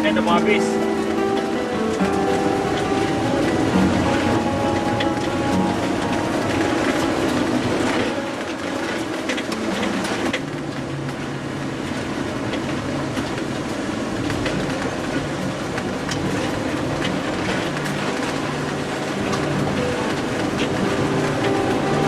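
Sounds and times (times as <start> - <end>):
car cabin road noise: 0.0 - 22.0.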